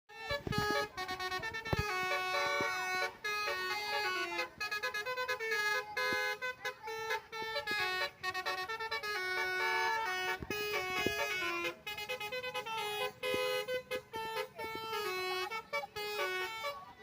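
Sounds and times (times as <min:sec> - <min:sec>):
multi-tone bus horn tune: 0:00.1 - 0:17.0.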